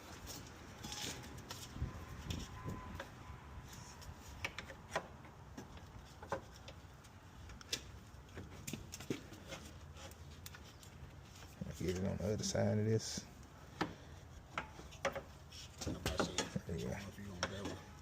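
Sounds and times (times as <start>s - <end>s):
light clicks and knocks of parts: 0.1s - 18.0s.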